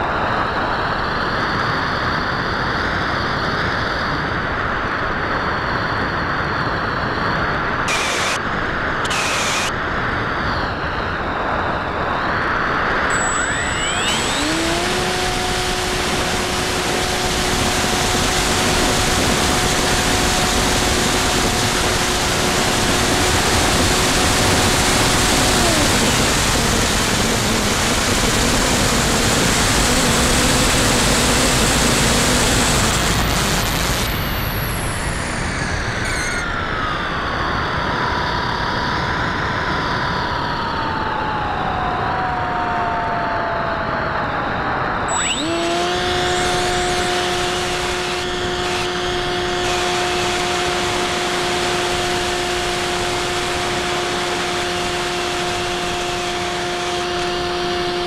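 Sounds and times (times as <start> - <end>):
wind rushing over microphone: 0.0 - 49.8
electric motor whine: 0.0 - 58.0.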